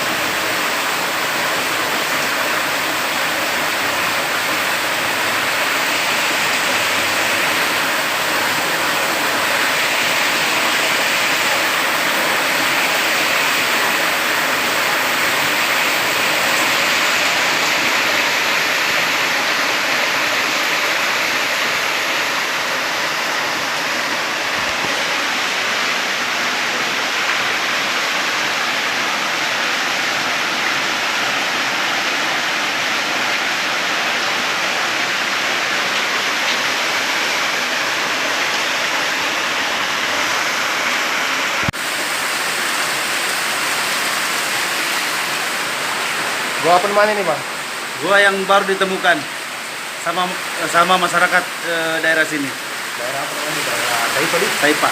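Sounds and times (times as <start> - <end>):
loud rush of flowing water: 0.0 - 54.9.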